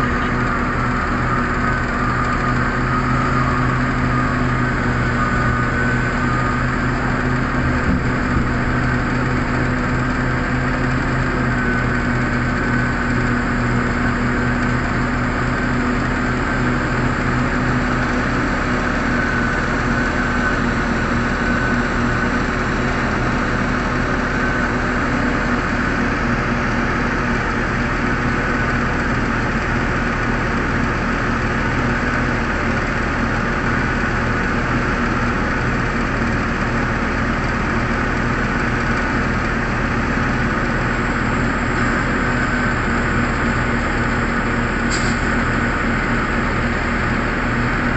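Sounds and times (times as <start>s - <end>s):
heavy diesel engines running: 0.0s - 47.9s.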